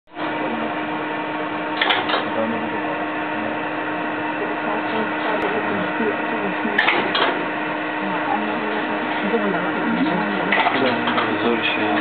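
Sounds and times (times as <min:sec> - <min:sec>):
elevator mechanical hum: 0:00.1 - 0:12.0.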